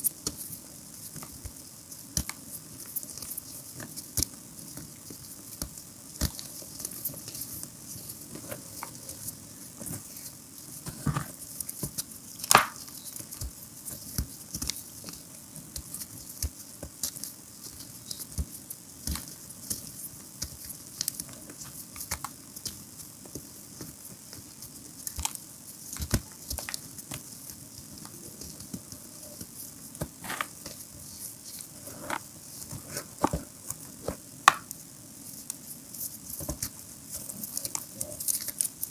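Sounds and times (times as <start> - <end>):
chalk crumbs pattering: 0.0 - 38.9.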